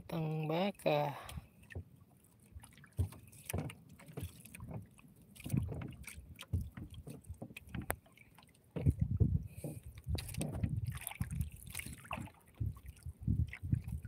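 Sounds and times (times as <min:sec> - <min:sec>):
water slapping against boat hull: 0:00.8 - 0:14.0.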